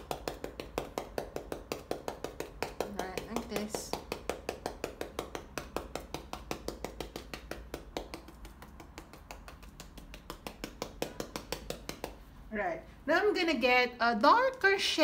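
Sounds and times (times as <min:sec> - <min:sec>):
sponge tapping on canvas: 0:00.0 - 0:12.3.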